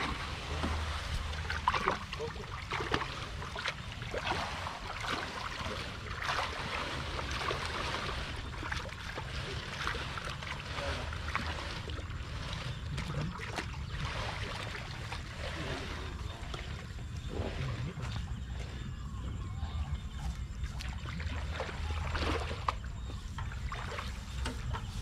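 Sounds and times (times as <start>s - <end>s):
steady low hum: 0.0s - 25.0s
water splashing in a canal: 0.0s - 25.0s.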